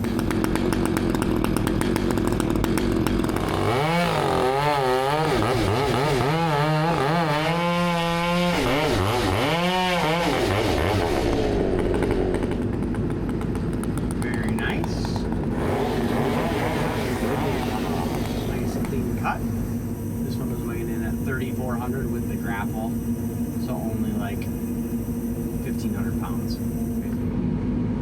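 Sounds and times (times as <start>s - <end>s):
chainsaw cutting: 0.0s - 27.4s.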